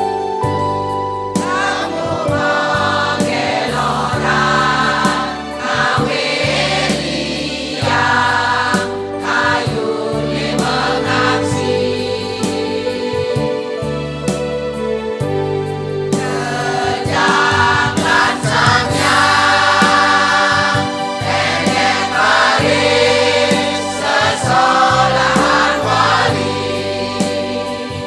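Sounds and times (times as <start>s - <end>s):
electronic keyboard accompaniment: 0.0s - 28.0s
women's choir singing: 1.4s - 13.5s, 16.2s - 28.0s.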